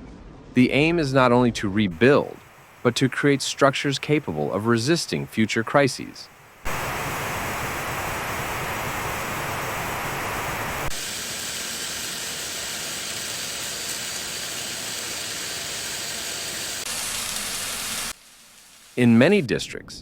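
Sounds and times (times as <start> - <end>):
steady rushing hiss: 0.6 - 19.9.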